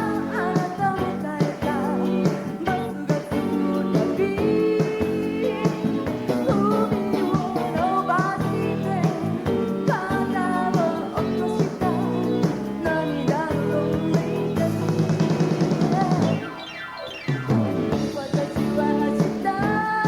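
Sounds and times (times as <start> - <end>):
woman singing pop song: 0.0 - 16.8, 17.9 - 20.0
drums steady beat: 0.0 - 20.0
live band playing: 0.0 - 20.0.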